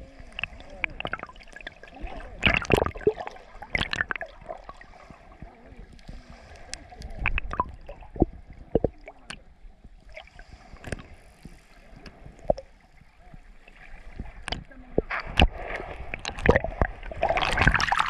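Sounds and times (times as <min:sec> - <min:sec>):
underwater water sloshing and gurgling: 0:00.0 - 0:18.0.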